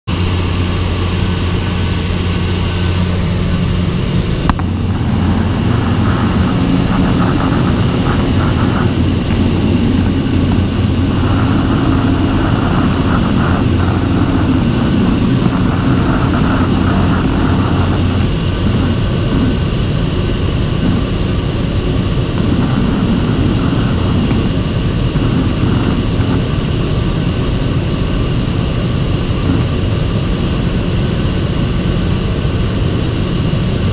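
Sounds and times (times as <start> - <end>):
plane engine and propeller droning: 0.1 - 33.9.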